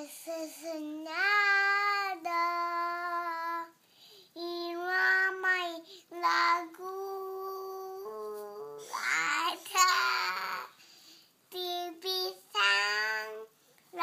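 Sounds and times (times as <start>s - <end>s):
boy singing unaccompanied: 0.0s - 3.8s, 4.4s - 10.7s, 11.5s - 14.0s.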